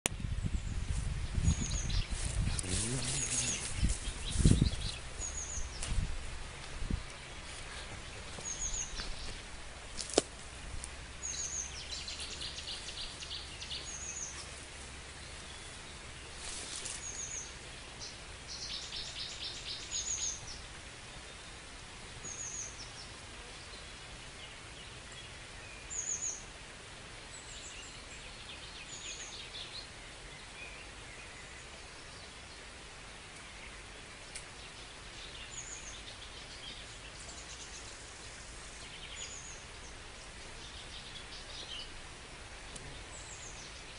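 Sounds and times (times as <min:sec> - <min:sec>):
songbirds chirping and trilling: 0:00.1 - 0:43.9
steady background hiss: 0:00.1 - 0:43.9.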